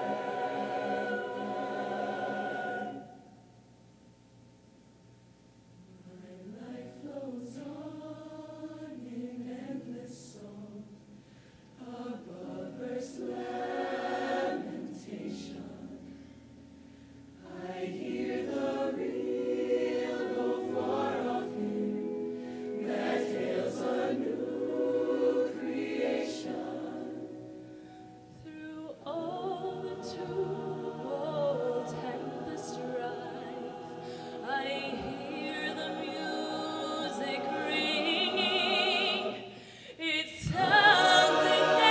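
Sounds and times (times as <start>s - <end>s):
choir singing in parts: 0.0s - 3.4s, 6.1s - 11.0s, 11.8s - 16.2s, 17.4s - 27.6s, 28.6s - 41.9s.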